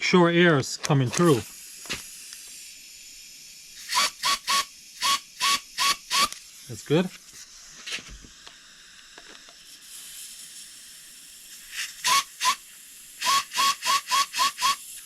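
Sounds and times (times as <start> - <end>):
compressed air blasts hissing: 1.2 - 8.0, 8.6 - 15.0.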